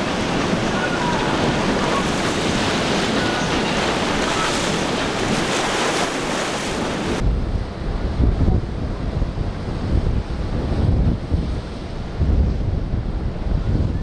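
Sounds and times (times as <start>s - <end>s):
rushing boat wake water: 0.0s - 14.0s
wind buffeting microphone: 0.0s - 14.0s.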